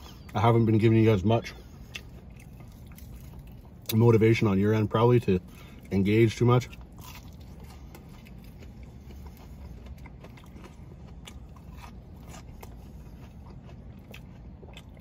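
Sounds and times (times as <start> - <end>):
low background rumble: 0.0 - 15.0
person chewing fries: 0.0 - 15.0.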